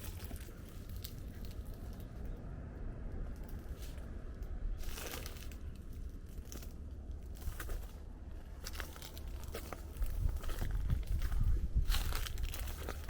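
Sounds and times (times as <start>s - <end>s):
crunching footsteps: 0.0s - 2.3s, 3.4s - 13.0s
steady low rumble: 0.0s - 13.0s.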